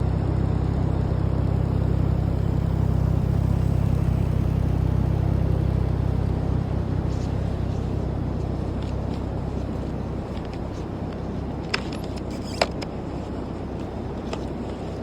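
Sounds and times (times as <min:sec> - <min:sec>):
snowmobile engine rumbling: 0:00.0 - 0:15.0.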